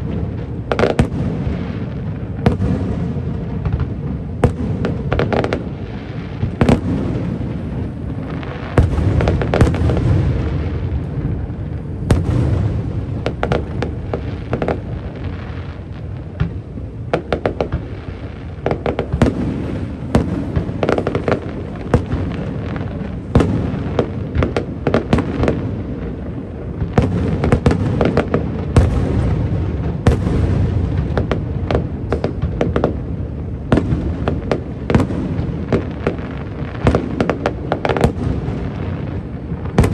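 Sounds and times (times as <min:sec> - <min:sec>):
continuous low rumble: 0:00.0 - 0:39.9
fireworks booms and crackling: 0:00.0 - 0:39.9.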